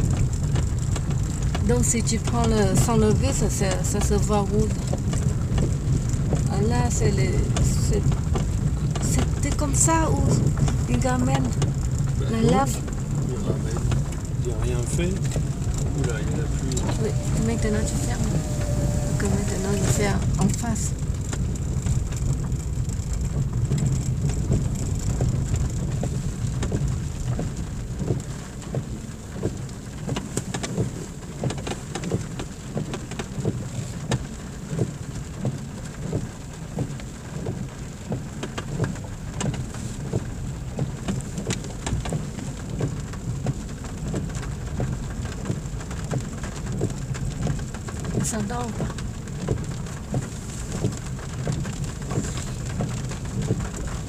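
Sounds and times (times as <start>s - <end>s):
raindrops ticking on windscreen: 0.0s - 54.0s
tyres and engine rumble: 0.0s - 54.0s.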